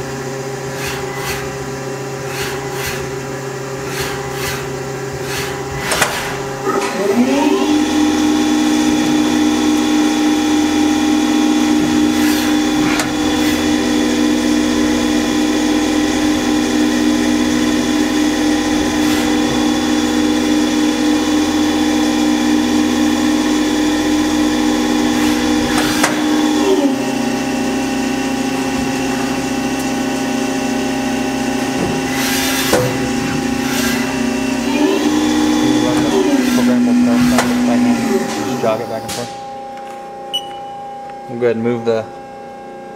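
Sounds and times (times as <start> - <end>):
lathe drive whine: 0.0 - 42.9.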